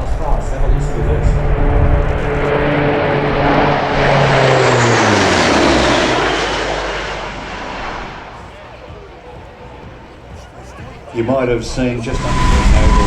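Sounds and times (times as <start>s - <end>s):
turboprop aircraft flyby: 0.0s - 13.0s.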